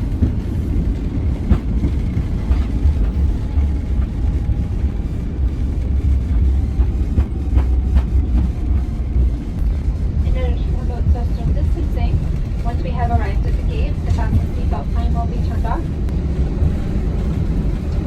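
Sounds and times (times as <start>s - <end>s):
airplane cabin low rumble: 0.0s - 18.0s.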